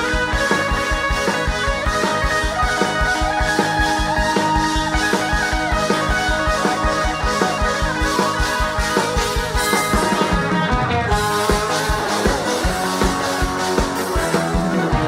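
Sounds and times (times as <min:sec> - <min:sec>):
electric guitar melody: 0:00.0 - 0:15.0
keyboard melody: 0:00.0 - 0:15.0.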